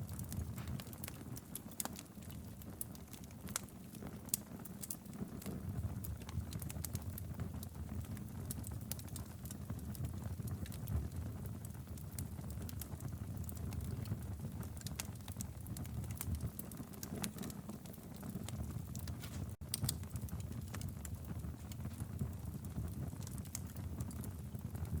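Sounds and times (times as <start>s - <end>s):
fire crackling and popping: 0.0s - 25.0s
fire flames rumbling: 0.0s - 25.0s.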